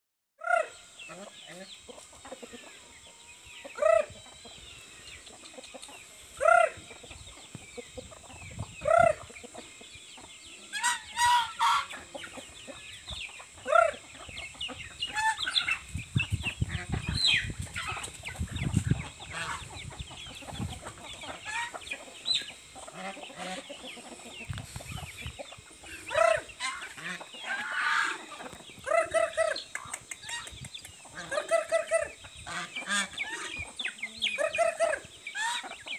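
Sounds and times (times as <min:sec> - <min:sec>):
chickens clucking and calling: 0:00.4 - 0:35.9.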